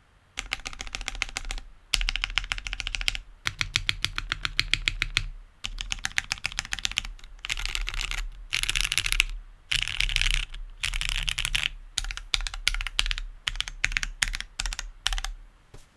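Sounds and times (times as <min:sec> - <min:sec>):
typing on mechanical keyboard: 0:00.4 - 0:15.4.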